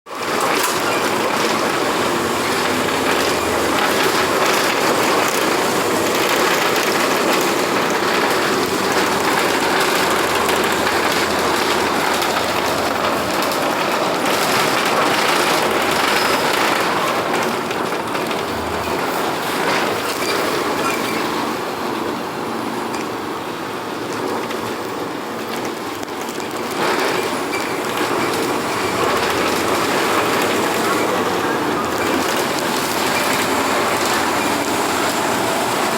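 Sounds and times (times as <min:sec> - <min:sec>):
bus rattling while driving: 0:00.1 - 0:35.9.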